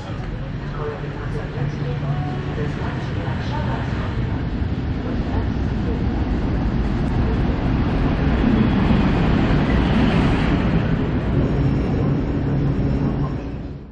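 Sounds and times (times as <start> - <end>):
train rumbling on track: 0.0 - 13.9.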